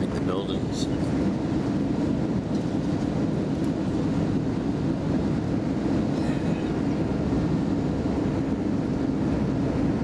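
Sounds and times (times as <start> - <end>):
airplane cabin engine noise: 0.0 - 10.0.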